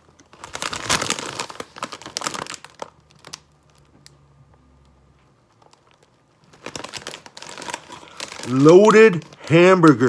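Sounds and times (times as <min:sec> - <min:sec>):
plastic chip bag crinkling: 0:00.0 - 0:04.3, 0:05.4 - 0:10.0.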